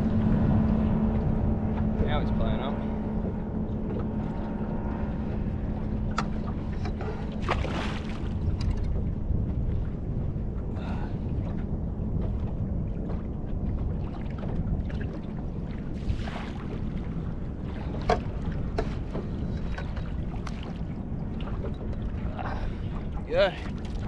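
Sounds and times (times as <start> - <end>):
water against boat hull: 0.0 - 24.0
wind buffeting microphone: 0.0 - 24.0.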